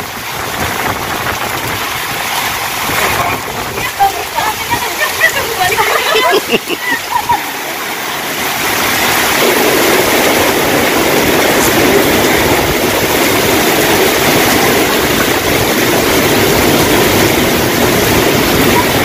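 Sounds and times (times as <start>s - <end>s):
heavy rain and wind: 0.0s - 19.0s.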